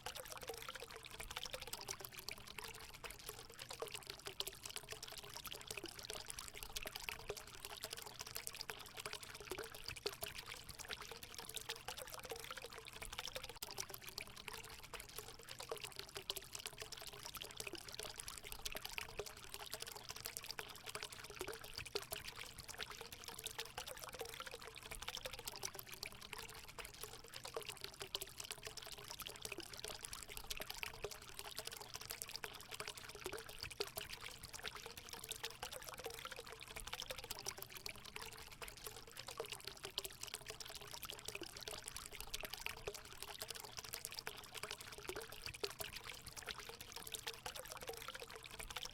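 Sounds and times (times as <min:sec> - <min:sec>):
water pouring into pool: 0:00.0 - 0:48.9.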